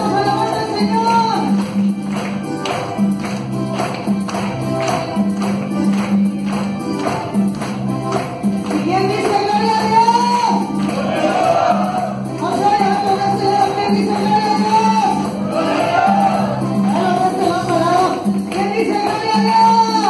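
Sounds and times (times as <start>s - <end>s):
keyboard bass line: 0.0s - 20.0s
percussive beat: 0.0s - 20.0s.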